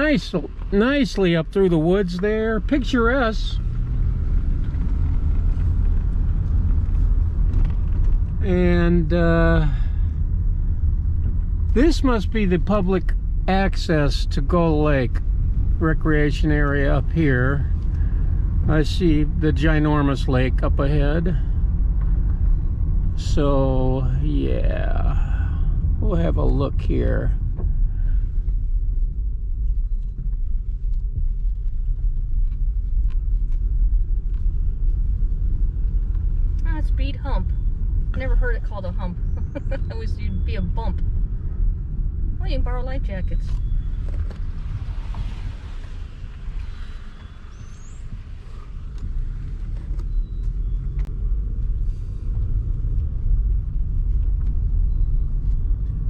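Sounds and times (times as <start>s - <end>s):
road noise: 0.0s - 56.0s
vehicle engine rumble: 0.0s - 56.0s.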